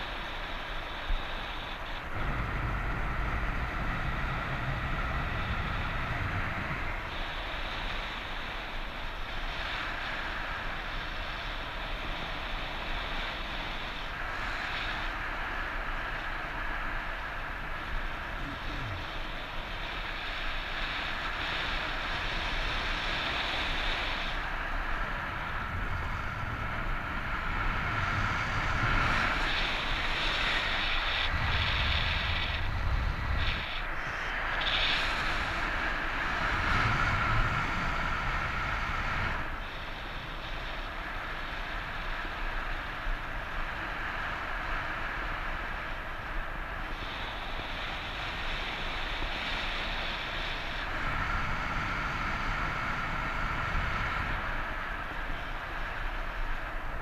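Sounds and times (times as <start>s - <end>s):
low wind buffeting: 0.0s - 57.0s
wind rushing over microphone: 0.0s - 57.0s.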